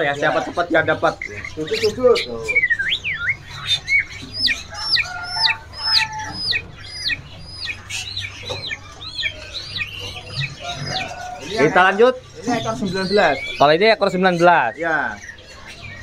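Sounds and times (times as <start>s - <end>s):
songbird whistling: 1.0s - 16.0s.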